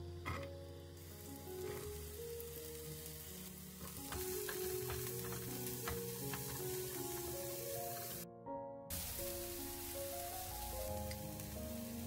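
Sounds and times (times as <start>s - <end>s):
vegetables sizzling in hot oil: 0.1s - 8.2s, 8.9s - 12.0s.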